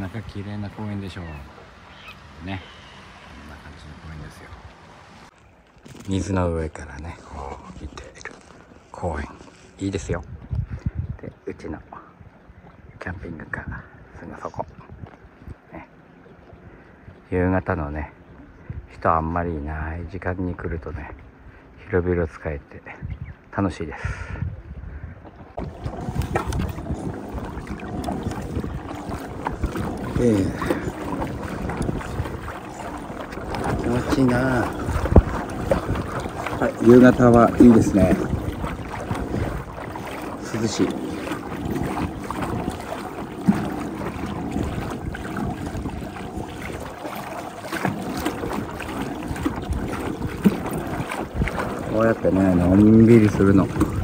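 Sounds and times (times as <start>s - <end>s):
wind buffeting microphone: 0.0s - 5.3s, 9.0s - 15.8s, 16.4s - 21.6s, 22.9s - 54.0s
waves lapping at kayak hull: 0.0s - 54.0s.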